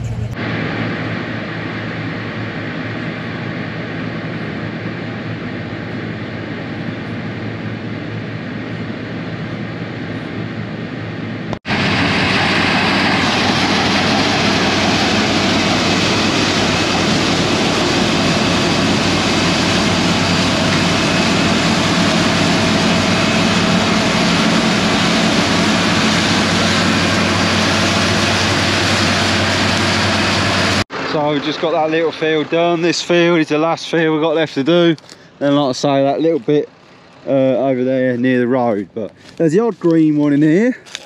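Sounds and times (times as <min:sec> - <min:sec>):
combine harvester running: 0:00.0 - 0:41.0.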